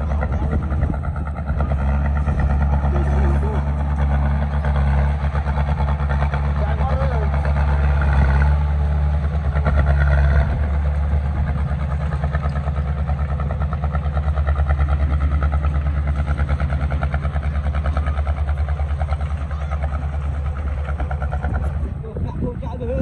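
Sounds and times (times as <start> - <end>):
diesel engine throbbing: 0.0 - 23.0.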